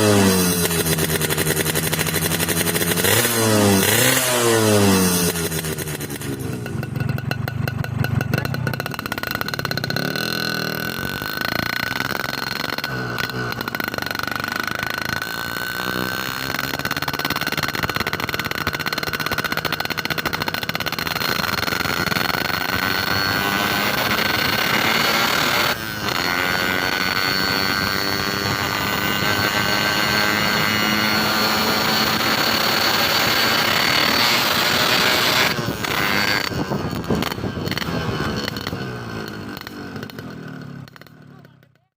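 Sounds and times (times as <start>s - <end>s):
road noise: 0.0s - 41.7s
motorcycle engine running: 0.0s - 42.0s.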